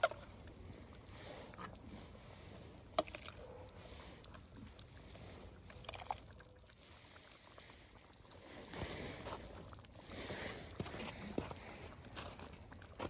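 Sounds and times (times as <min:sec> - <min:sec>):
soup pouring and sloshing: 0:00.1 - 0:13.0.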